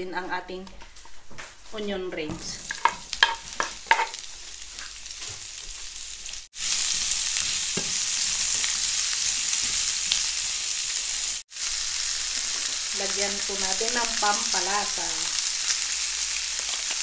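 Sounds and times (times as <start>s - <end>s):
onions sizzling in a frying pan: 2.6s - 17.0s.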